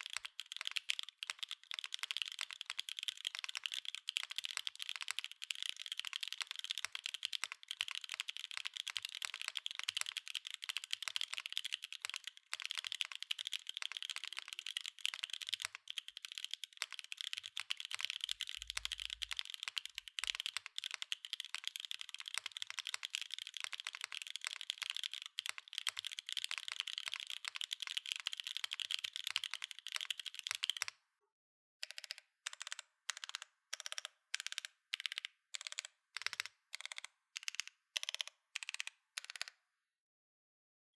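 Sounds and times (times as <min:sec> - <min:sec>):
mechanical keyboard typing: 0:00.0 - 0:30.9, 0:31.8 - 0:39.6.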